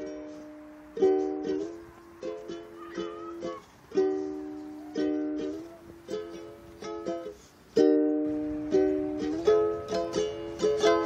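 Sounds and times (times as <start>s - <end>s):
strummed ukulele chords: 0.0s - 11.0s.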